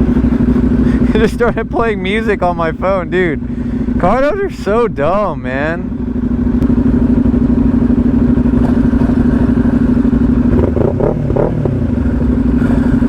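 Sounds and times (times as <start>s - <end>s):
motorcycle engine cruising: 0.0s - 13.0s
wind and road rumble: 0.0s - 13.0s.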